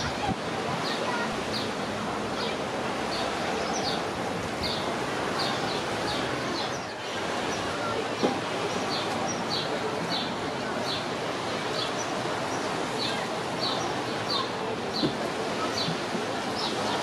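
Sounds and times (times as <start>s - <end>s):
sea and wind noise: 0.0s - 17.0s.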